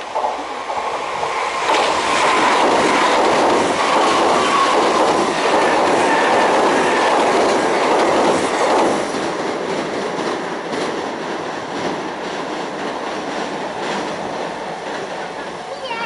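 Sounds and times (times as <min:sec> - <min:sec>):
train wheels clattering over rails: 0:00.0 - 0:15.7
electric train passing on a bridge: 0:00.0 - 0:16.0.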